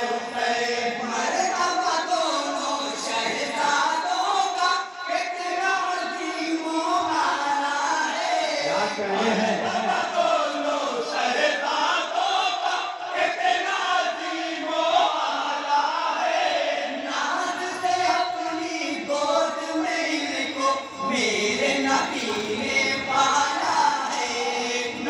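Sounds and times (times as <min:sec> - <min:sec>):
crowd noise: 0:00.0 - 0:25.0
men chanting in chorus: 0:00.0 - 0:25.0.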